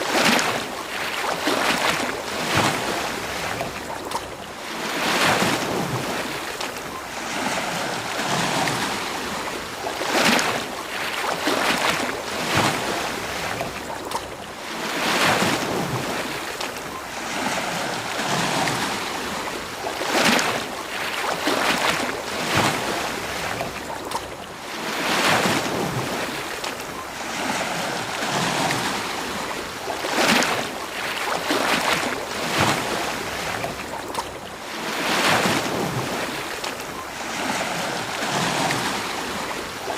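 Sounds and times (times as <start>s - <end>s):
ocean waves crashing on beach: 0.0s - 39.9s.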